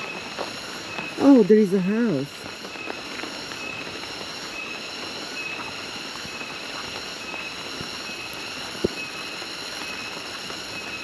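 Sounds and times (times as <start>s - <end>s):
shrill insect chorus: 0.0s - 11.0s.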